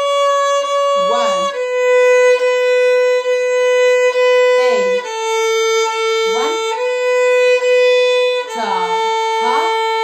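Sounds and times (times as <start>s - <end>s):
violin bowing sustained notes: 0.0s - 10.0s.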